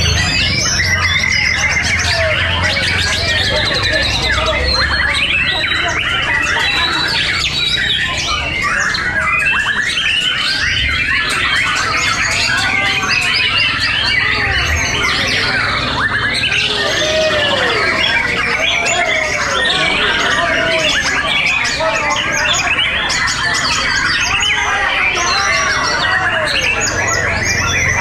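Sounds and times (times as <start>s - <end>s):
many birds whistling and chirping: 0.0s - 28.0s.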